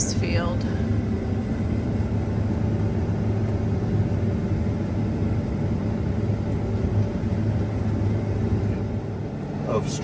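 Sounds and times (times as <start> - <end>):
combine harvester engine drone: 0.0 - 10.0.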